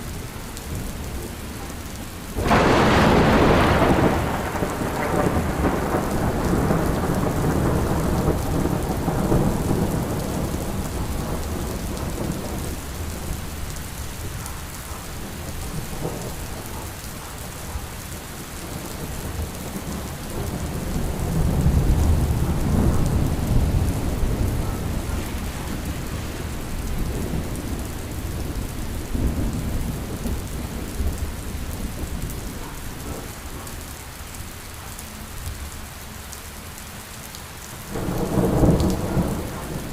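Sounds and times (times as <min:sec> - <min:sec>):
steady rain: 0:00.0 - 0:39.9
rolling thunder rumbles: 0:00.6 - 0:34.4, 0:37.8 - 0:39.9.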